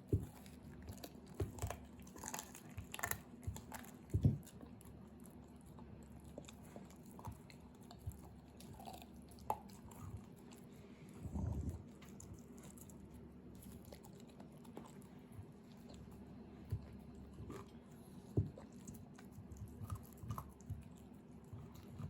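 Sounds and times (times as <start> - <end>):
dog chewing and crunching bone: 0.0 - 22.0.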